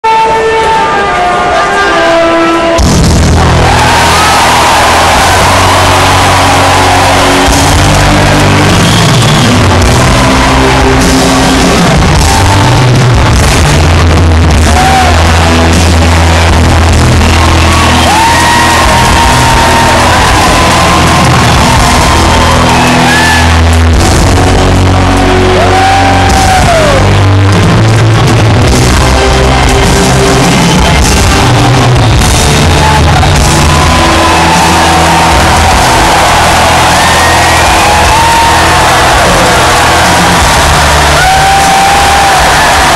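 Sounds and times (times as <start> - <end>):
crowd shouting: 0.0 - 27.2, 28.8 - 42.9
distorted live rock music: 0.0 - 42.9.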